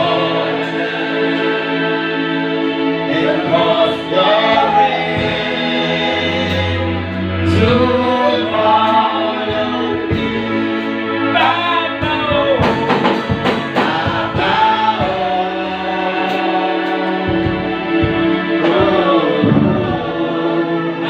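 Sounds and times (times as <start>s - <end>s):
held instrumental chords: 0.0s - 21.0s
voices singing slow gospel song: 0.0s - 21.0s.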